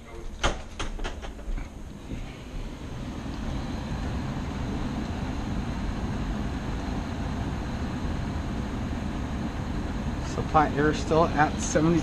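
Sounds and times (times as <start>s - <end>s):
air handler blower rushing: 1.6s - 12.0s.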